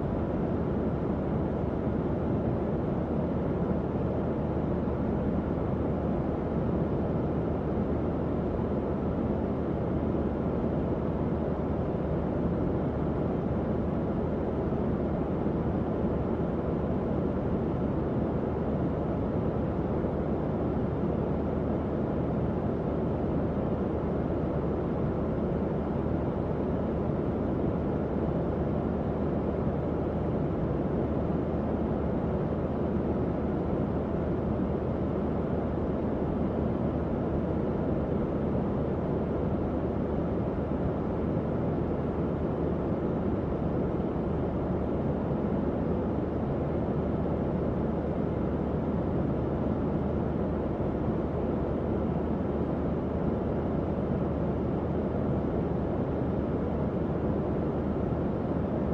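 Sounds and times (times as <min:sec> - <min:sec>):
fan blowing air: 0:00.0 - 0:58.9.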